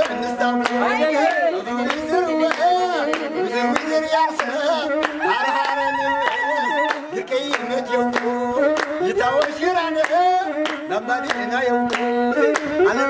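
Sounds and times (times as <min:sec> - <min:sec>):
hand clapping: 0:00.0 - 0:13.0
people singing together: 0:00.0 - 0:13.0.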